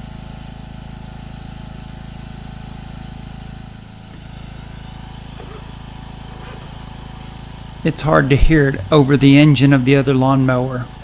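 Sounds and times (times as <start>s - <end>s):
lawn mower engine running: 0.2s - 11.0s.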